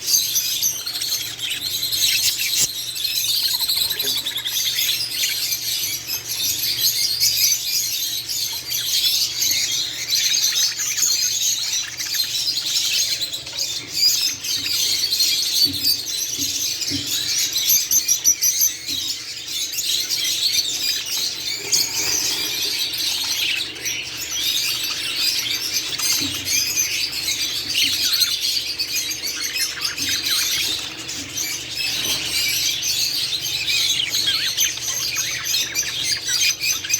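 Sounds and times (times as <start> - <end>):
budgerigars chattering and chirping: 0.0 - 36.9.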